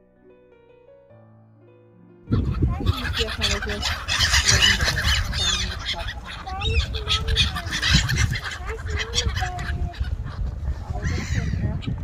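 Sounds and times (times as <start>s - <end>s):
birds calling: 2.2s - 12.0s
low rumble: 2.2s - 12.0s.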